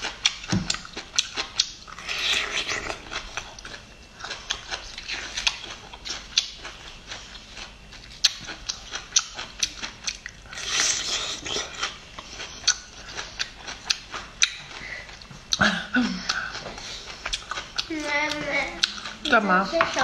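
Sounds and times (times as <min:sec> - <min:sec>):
crunchy chewing: 0:00.0 - 0:15.6, 0:16.2 - 0:19.3.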